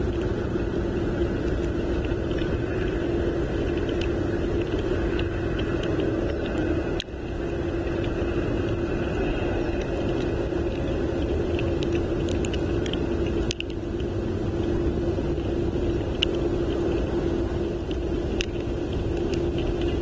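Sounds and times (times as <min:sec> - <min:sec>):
low hum: 0:00.0 - 0:20.0
wind rumble on microphone: 0:00.0 - 0:20.0
faint ticks: 0:00.1 - 0:17.1, 0:17.7 - 0:20.0.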